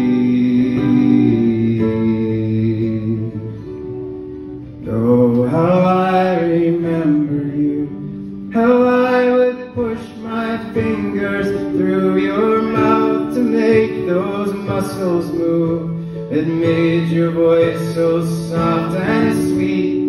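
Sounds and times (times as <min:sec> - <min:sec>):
man singing wordless melody: 0:00.0 - 0:04.0, 0:04.7 - 0:20.0
acoustic guitar playing: 0:00.0 - 0:20.0.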